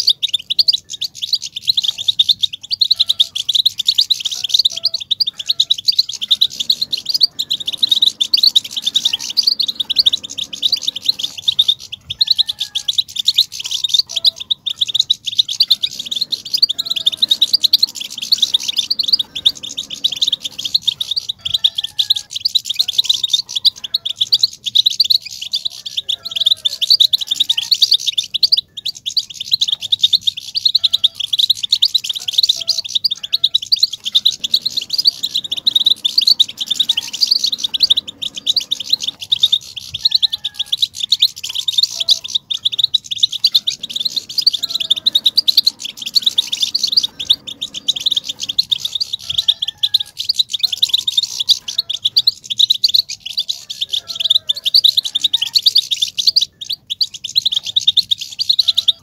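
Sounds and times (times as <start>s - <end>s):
finch chattering twitter: 0.0s - 59.0s.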